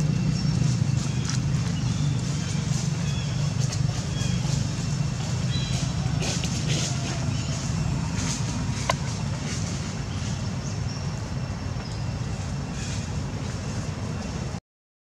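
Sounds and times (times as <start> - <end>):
low outdoor rumble: 0.0 - 14.6.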